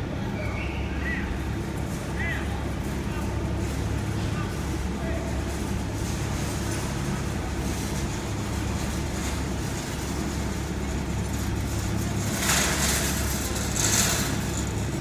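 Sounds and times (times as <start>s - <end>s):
van road and engine noise: 0.9s - 15.0s.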